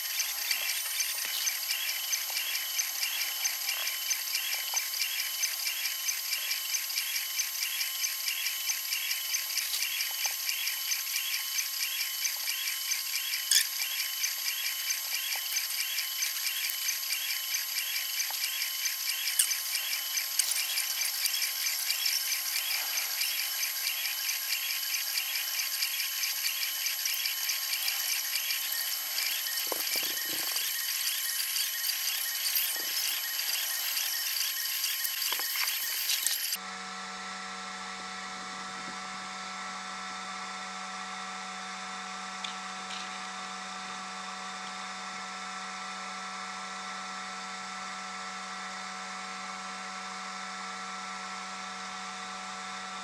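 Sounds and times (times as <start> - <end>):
steady high hum: 0.0 - 53.0
stepper motors whining and chirping: 0.0 - 53.0.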